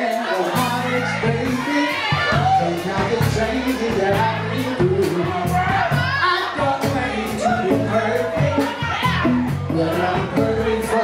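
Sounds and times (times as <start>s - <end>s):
drums cymbal beat: 0.0s - 11.0s
man singing: 0.0s - 11.0s
low bass notes: 0.5s - 11.0s.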